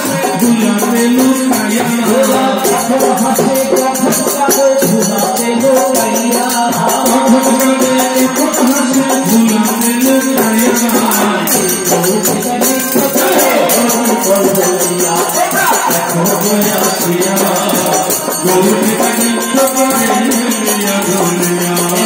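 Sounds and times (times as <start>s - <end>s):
devotional group singing: 0.0s - 22.0s
jingling hand cymbals: 0.0s - 22.0s.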